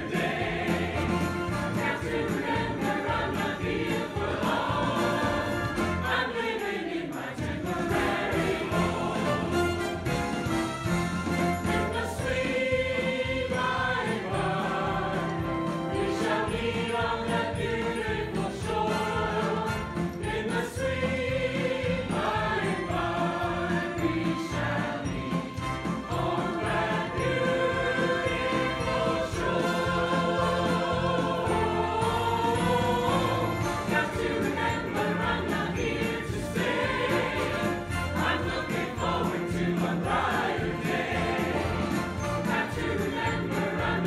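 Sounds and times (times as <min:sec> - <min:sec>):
choir singing in harmony: 0:00.0 - 0:44.0.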